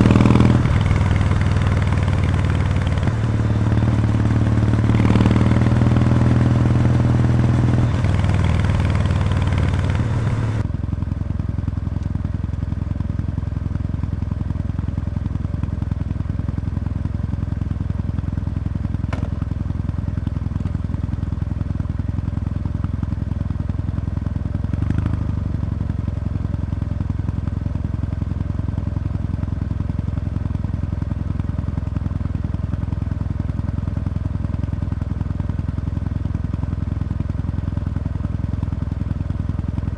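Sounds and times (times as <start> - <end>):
motorcycle engine revving and idling: 0.0 - 11.4, 13.0 - 39.9.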